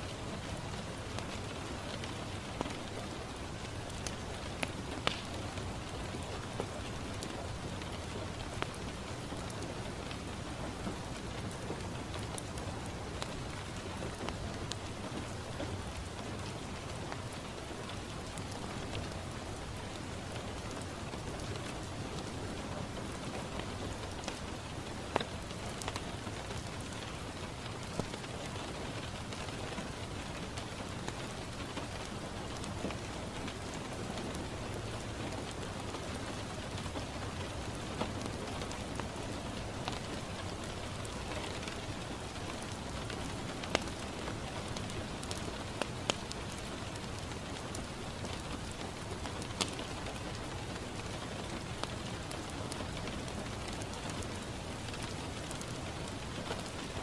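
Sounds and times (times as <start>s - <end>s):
rain on a window: 0.0s - 57.0s
wood fire crackles: 0.0s - 57.0s.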